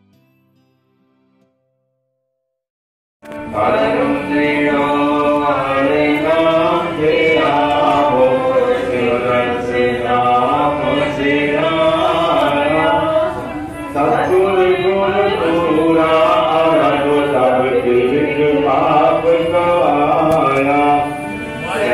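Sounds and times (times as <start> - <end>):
voices singing a hymn: 3.3 - 21.9.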